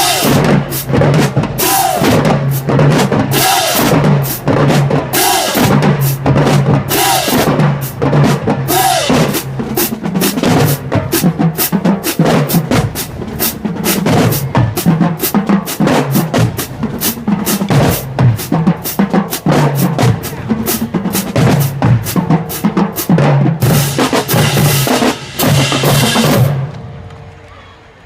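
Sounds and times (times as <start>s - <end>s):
drumline playing fast cadence: 0.0s - 28.0s.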